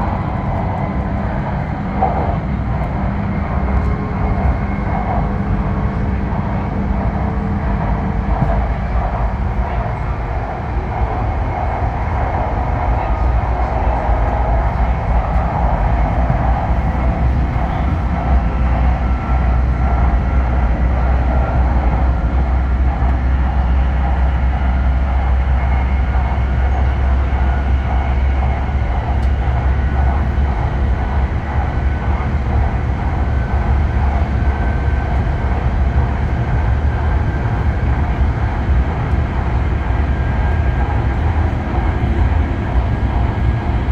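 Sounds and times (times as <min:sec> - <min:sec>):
train cabin low rumble: 0:00.0 - 0:43.9.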